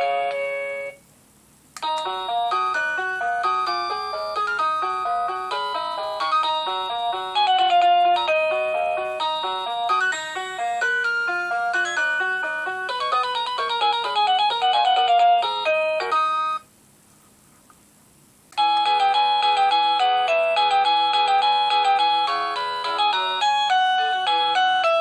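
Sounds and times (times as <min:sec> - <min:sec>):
electronic door chime melody: 0:00.0 - 0:01.0, 0:01.8 - 0:16.7, 0:18.6 - 0:25.0.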